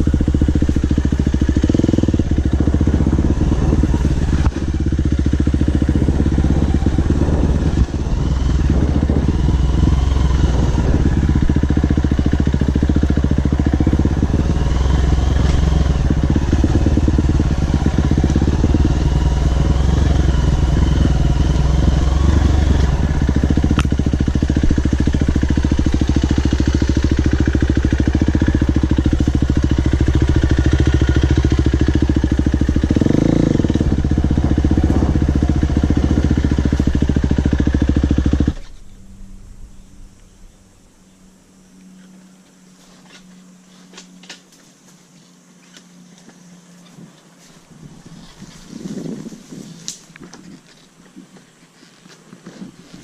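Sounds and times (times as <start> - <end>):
motorcycle engine at low revs: 0.0 - 53.0.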